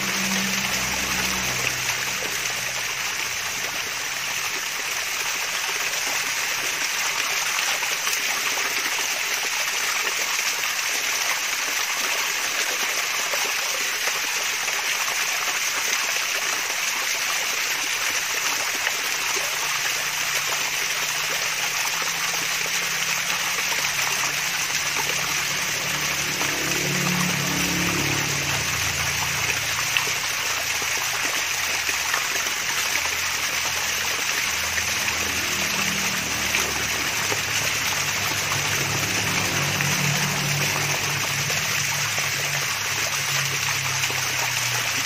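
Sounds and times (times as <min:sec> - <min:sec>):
small waterfall splashing: 0:00.0 - 0:45.0.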